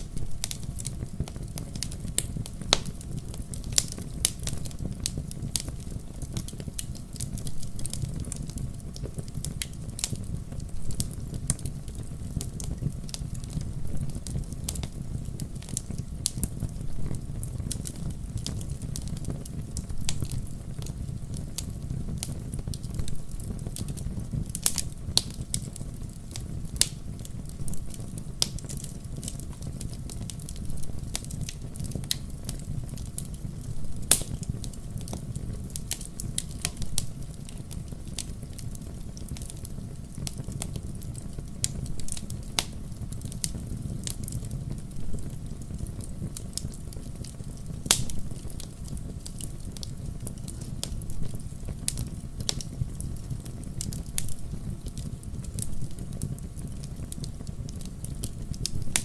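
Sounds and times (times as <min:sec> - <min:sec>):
burning logs low rumble: 0:00.0 - 0:59.0
fire crackling: 0:00.0 - 0:59.0
fire sharp pops: 0:00.0 - 0:59.0.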